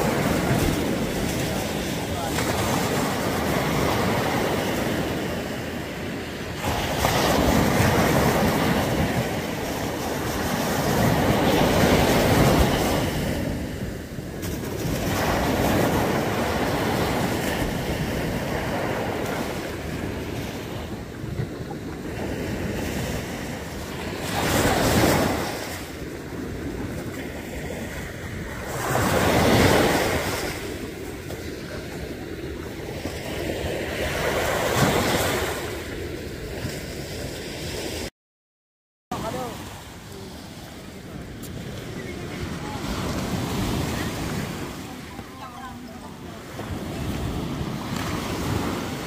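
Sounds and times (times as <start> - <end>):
surf waves breaking: 0.0 - 38.1, 39.1 - 49.0.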